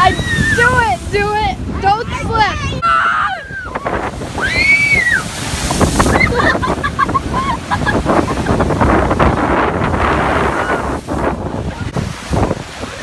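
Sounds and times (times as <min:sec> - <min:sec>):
waves crashing on shore: 0:00.0 - 0:13.0
wind buffeting microphone: 0:00.0 - 0:13.0.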